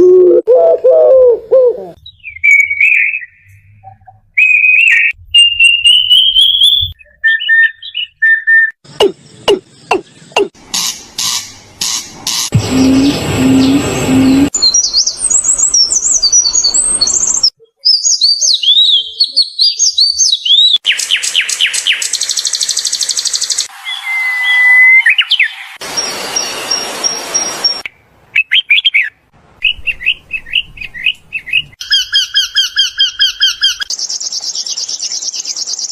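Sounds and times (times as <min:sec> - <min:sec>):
whistled bird notes: 0:02.0 - 0:10.5, 0:12.6 - 0:35.9
bird chirps: 0:02.0 - 0:35.9.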